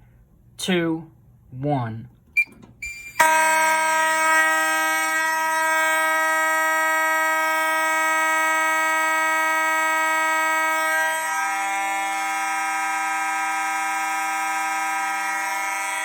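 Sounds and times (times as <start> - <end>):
fire alarm horns sounding: 2.4 - 16.0.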